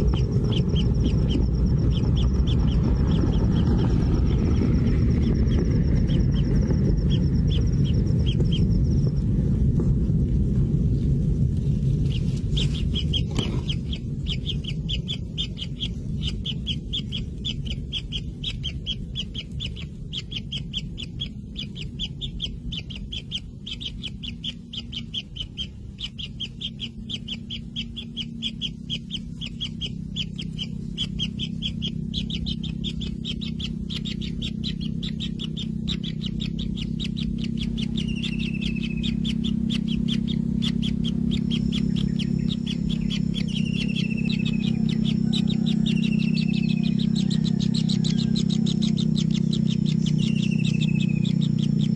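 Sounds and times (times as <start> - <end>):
chicks chirping: 0.0 - 9.2, 11.6 - 51.9
steady low hum: 0.0 - 51.9.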